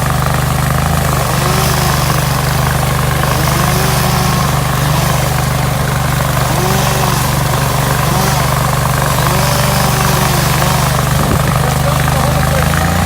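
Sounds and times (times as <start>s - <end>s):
stump grinder engine running: 0.0s - 13.0s.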